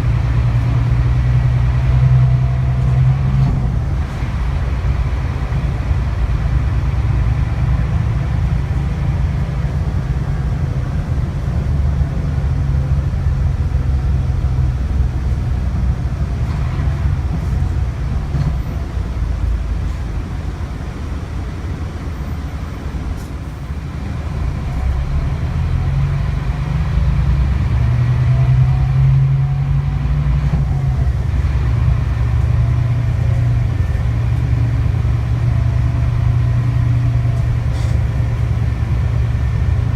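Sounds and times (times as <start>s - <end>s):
coach engine droning: 0.0s - 39.9s.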